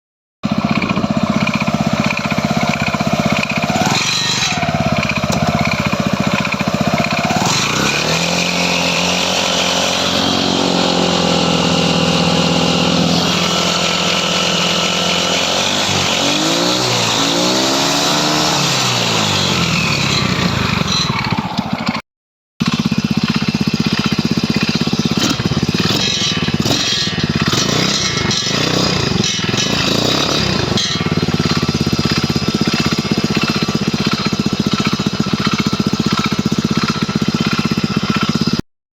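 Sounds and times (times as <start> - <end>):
engine knocking: 0.4 - 17.9, 22.6 - 38.6
moped engine revving: 0.4 - 22.0, 22.6 - 38.6.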